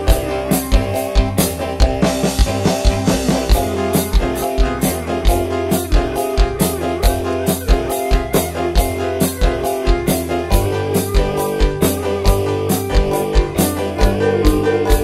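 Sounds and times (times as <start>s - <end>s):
live band through pa system: 0.0s - 15.0s.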